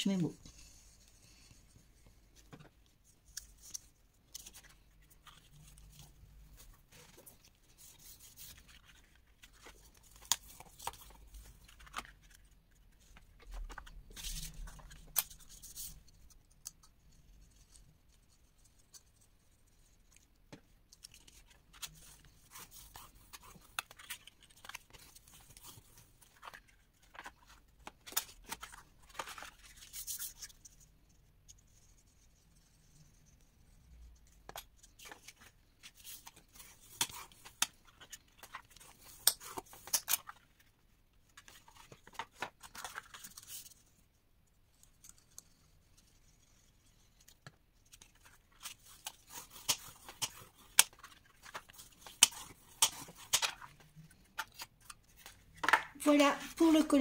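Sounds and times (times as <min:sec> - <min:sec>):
paper rustling: 0:00.5 - 0:16.4, 0:20.9 - 0:30.8, 0:34.3 - 0:43.9, 0:44.7 - 0:57.0.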